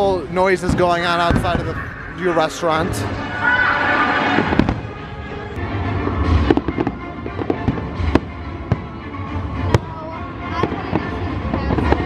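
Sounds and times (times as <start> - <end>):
fireworks bangs and booms: 0.0 - 3.2, 4.2 - 5.0, 6.0 - 12.0
music playing: 1.1 - 12.0.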